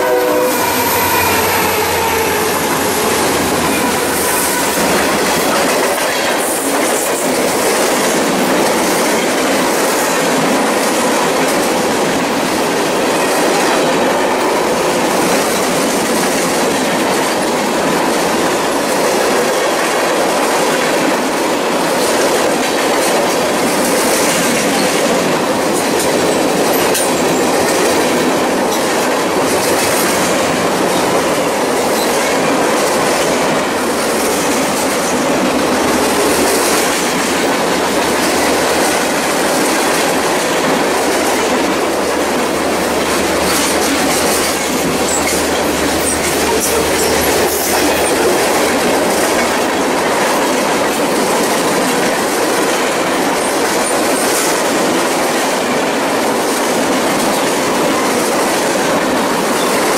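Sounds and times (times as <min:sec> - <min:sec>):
freight train wheels rumbling on rails: 0:00.0 - 0:59.9
wheels clicking over rail joints: 0:00.6 - 0:59.9.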